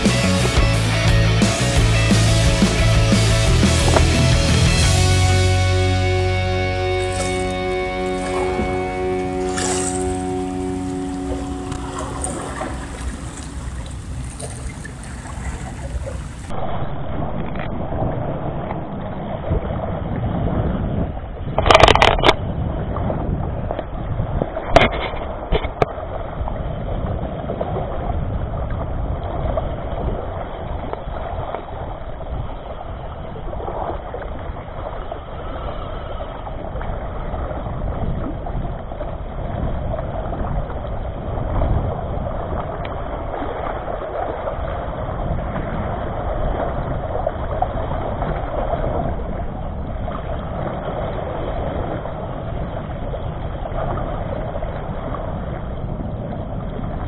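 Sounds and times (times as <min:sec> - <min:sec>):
wind rumble on microphone: 0:06.7 - 0:57.0.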